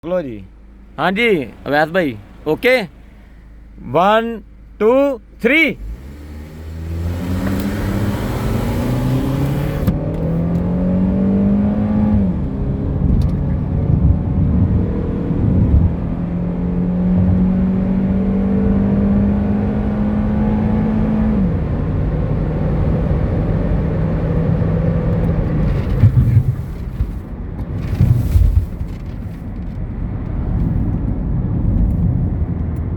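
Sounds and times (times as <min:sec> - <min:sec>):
car engine accelerating: 0:00.0 - 0:32.9
road noise: 0:00.0 - 0:32.9.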